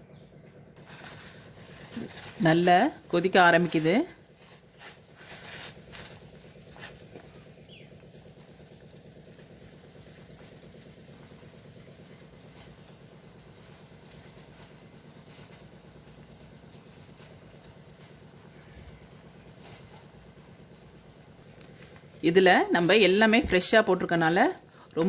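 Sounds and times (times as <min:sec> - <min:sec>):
pot boiling with fast bubbling: 0:00.1 - 0:25.0.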